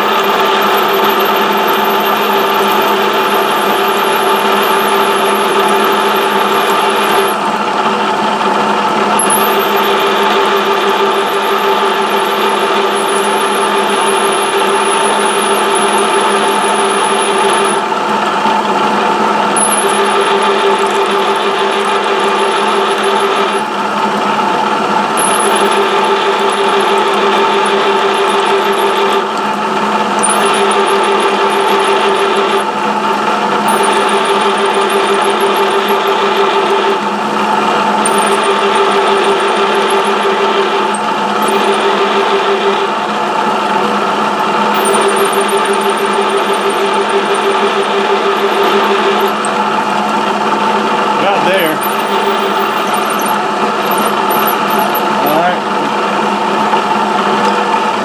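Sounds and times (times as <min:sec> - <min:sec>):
machine spindle running: 0:00.0 - 0:58.0.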